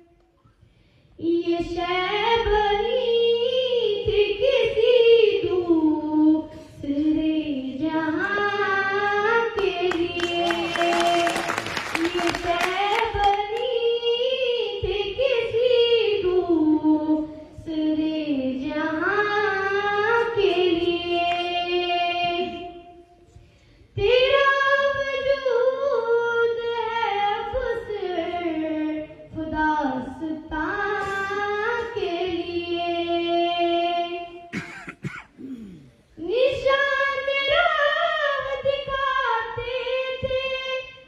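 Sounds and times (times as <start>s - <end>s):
girl singing into a microphone: 0.0s - 11.4s, 12.0s - 34.6s, 35.6s - 41.0s.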